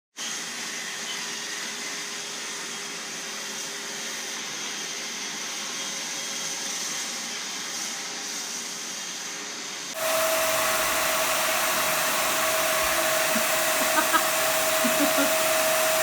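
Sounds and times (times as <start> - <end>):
vacuum cleaner running: 0.2 - 16.0.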